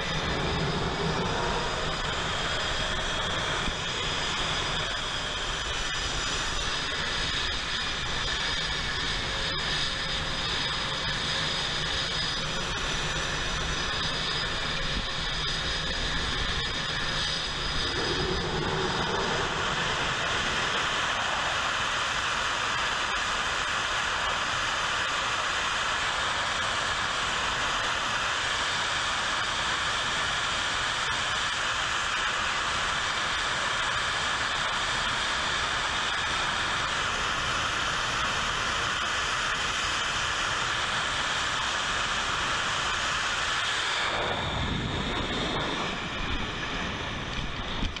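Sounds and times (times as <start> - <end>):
loud jet roar and hiss: 0.0 - 48.0.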